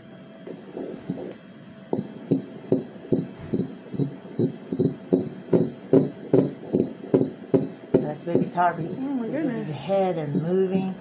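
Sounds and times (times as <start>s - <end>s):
fetal heartbeat on doppler: 0.4s - 9.0s, 10.2s - 11.0s.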